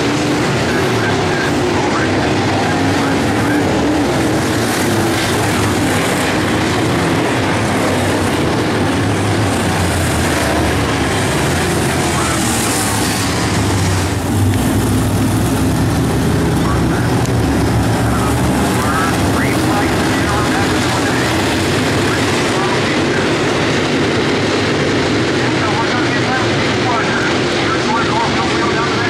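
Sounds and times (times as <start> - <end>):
race car engines roaring: 0.0 - 29.0.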